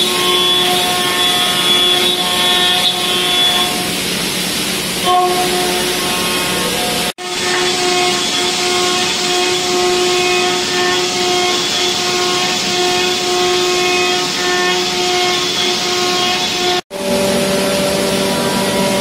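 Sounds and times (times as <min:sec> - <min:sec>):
hiss of cutting and coolant spray: 0:00.0 - 0:16.7
milling machine cutting whine: 0:00.0 - 0:19.0.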